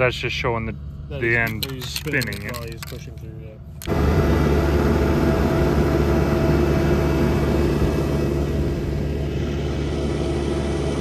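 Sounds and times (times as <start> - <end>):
drill rig diesel engine droning: 0.0 - 11.0.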